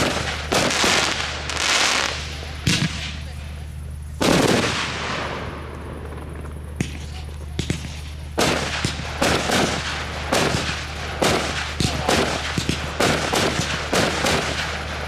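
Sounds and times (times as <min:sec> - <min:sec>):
firework shells bursting: 0:00.0 - 0:15.0
smaller firework reports: 0:00.0 - 0:15.0.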